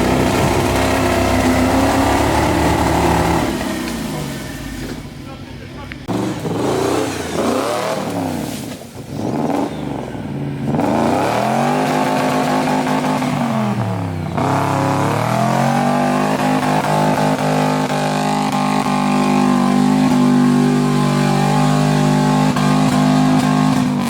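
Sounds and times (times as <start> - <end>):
truck engine revving hard: 0.0 - 4.9, 6.1 - 24.0.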